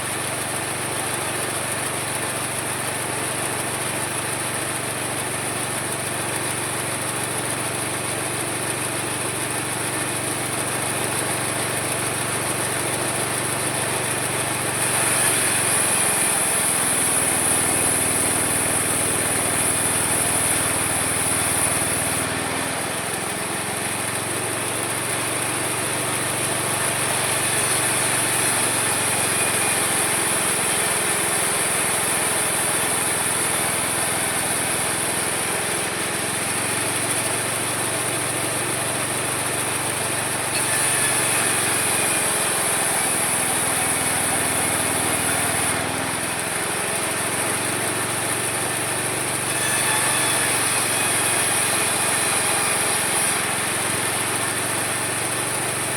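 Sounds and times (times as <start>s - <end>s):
sawmill whining and humming: 0.0s - 55.9s.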